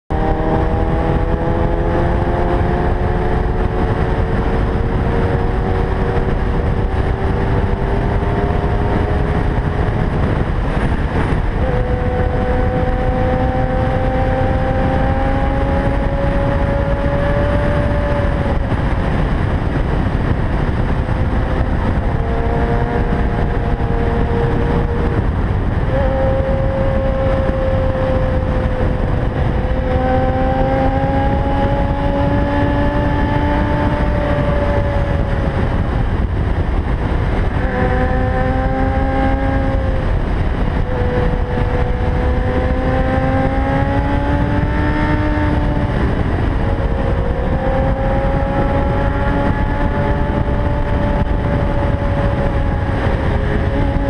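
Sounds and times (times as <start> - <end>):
wind rushing on helmet: 0.1 - 54.0.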